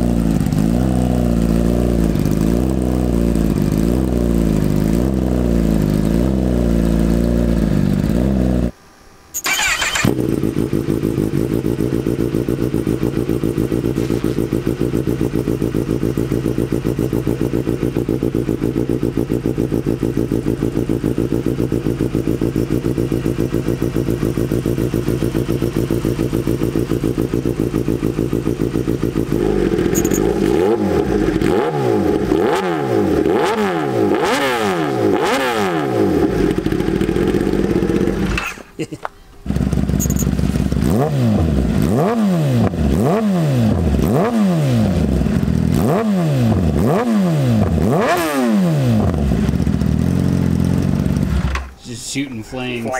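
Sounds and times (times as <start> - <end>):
motorcycle engine revving: 0.0 - 8.8, 9.4 - 51.8.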